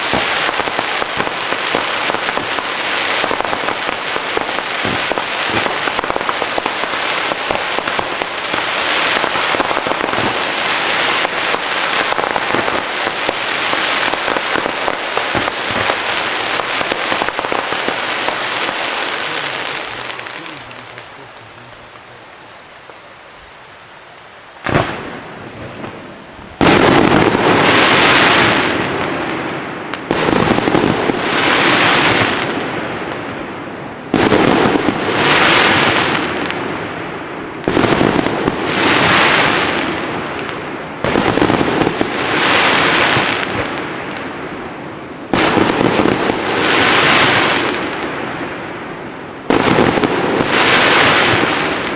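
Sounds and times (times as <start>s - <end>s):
firework bangs: 0.0s - 23.6s, 24.6s - 51.9s
firework bursts: 0.0s - 51.9s
fireworks crackling: 0.0s - 51.9s.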